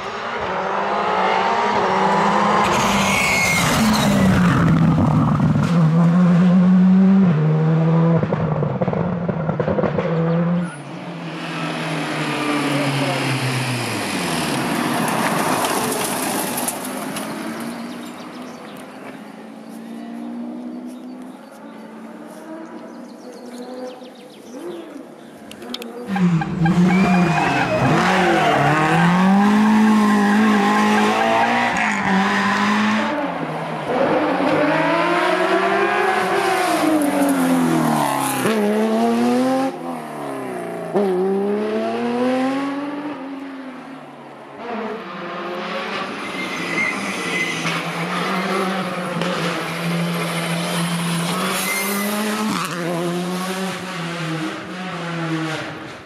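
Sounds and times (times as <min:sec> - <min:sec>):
rally car engines revving: 0:00.0 - 0:18.6, 0:19.6 - 0:56.0.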